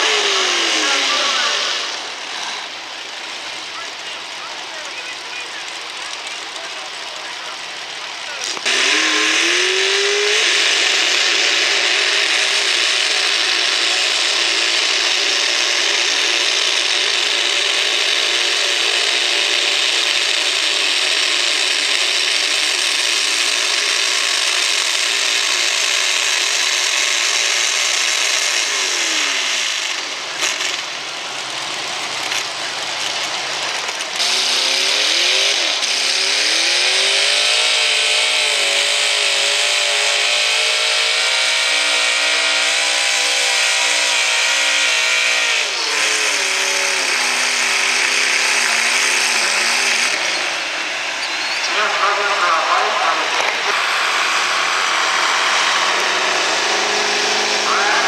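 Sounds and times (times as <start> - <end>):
second truck engine revving: 0.0 - 58.0
truck engine revving at high revs: 0.0 - 58.0.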